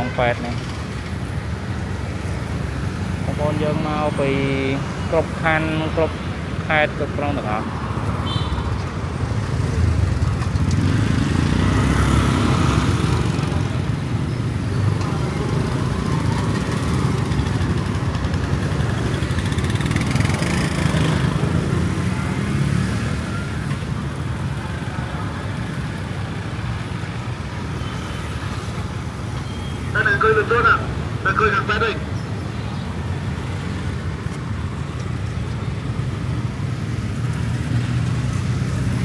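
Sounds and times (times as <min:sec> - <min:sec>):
motorbike engines passing: 0:00.0 - 0:39.0
road noise rumble: 0:00.0 - 0:39.0.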